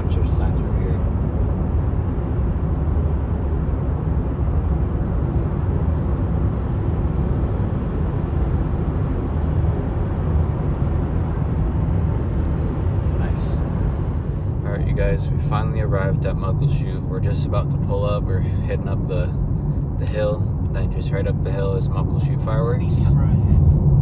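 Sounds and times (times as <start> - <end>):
car cabin road and engine noise: 0.0 - 24.0.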